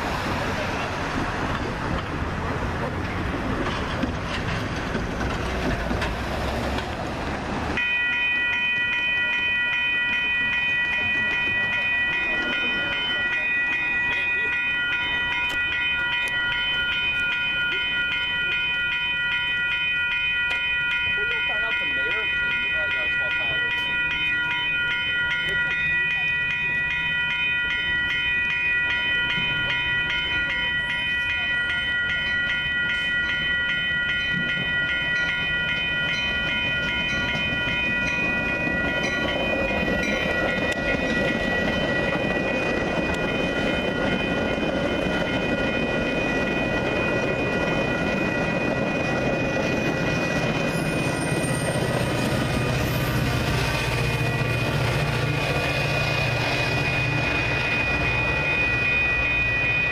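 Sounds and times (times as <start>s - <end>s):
diesel locomotive engine hum: 0.0s - 59.9s
railroad crossing bell ringing: 0.0s - 59.9s
train wheels rumbling on rails: 0.0s - 59.9s.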